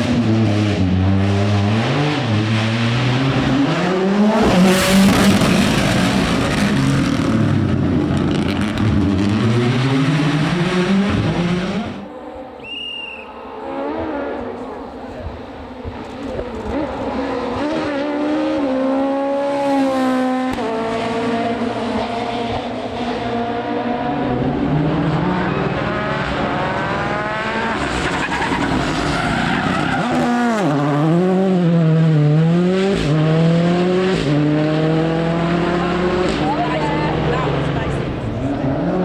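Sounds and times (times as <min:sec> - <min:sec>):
rally car engine at full throttle: 0:00.0 - 0:12.6, 0:13.5 - 0:39.0.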